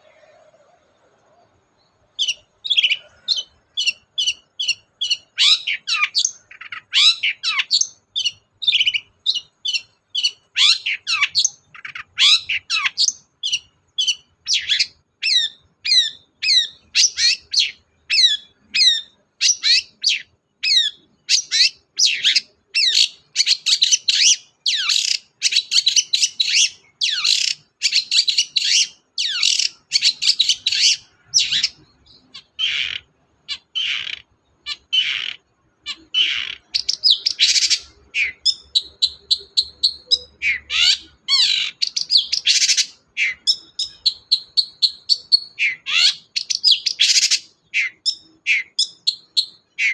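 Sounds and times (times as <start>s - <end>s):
bird singing sharp chirps: 0.0s - 49.9s.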